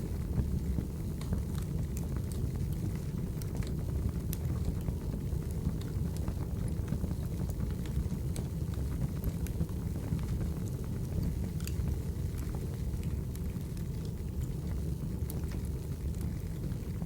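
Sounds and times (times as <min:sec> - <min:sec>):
firewood burning with crackles: 0:00.0 - 0:17.0.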